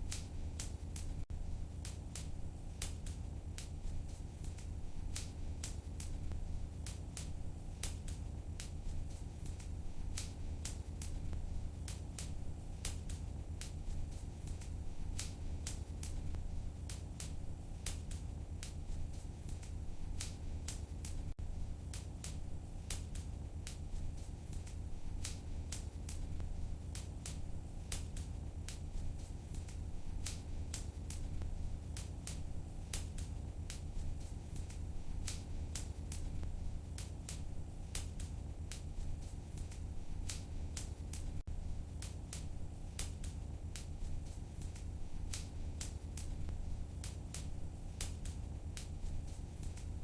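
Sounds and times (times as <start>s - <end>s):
fire pops and snaps: 0.0s - 50.0s
low rumble of flames: 0.0s - 50.0s
wood fire crackling: 0.0s - 50.0s.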